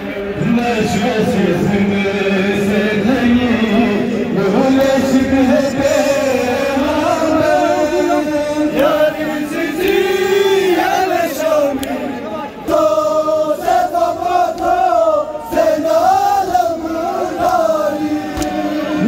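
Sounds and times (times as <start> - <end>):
men chanting together: 0.8 - 19.0.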